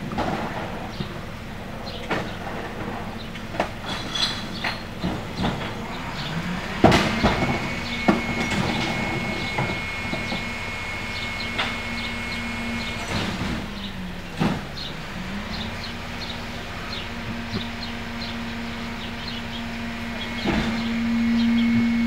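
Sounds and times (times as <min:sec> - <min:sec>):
garbage truck engine revving: 0:00.0 - 0:22.0
hydraulic whine: 0:00.0 - 0:22.0.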